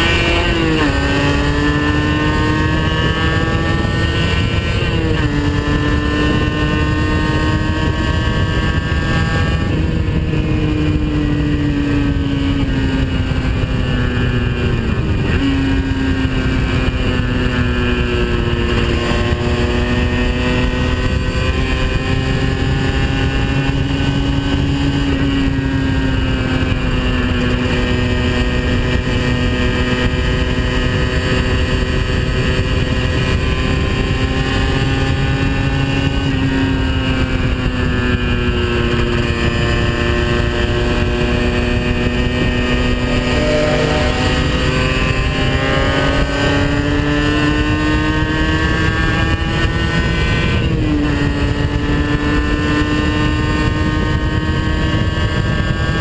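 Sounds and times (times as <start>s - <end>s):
two-stroke motorcycle engine: 0.0s - 56.0s
wind rush: 0.0s - 56.0s.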